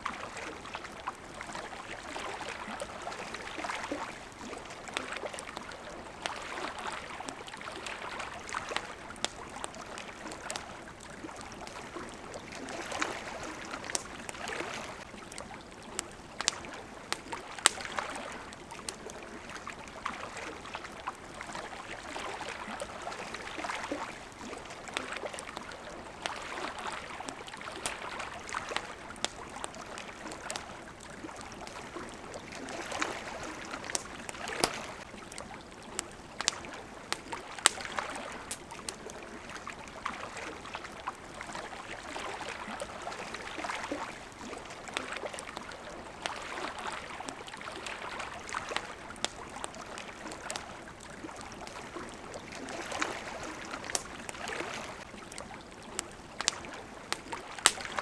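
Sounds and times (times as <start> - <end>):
campfire crackling and popping: 0.0 - 58.0
water lapping: 0.0 - 58.0.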